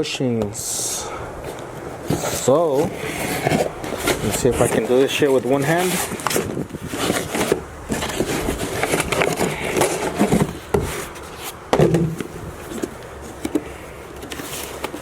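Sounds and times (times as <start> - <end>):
parcel rustling and scraping: 0.7 - 15.0.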